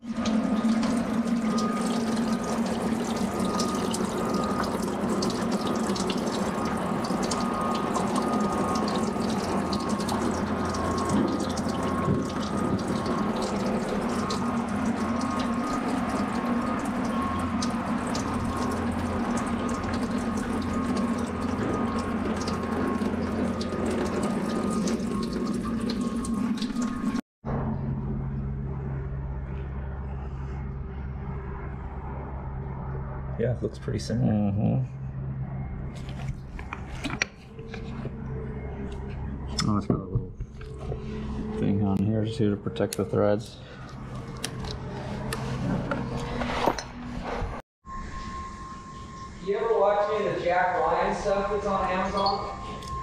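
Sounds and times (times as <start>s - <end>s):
low hum of shop machinery: 0.0s - 53.0s.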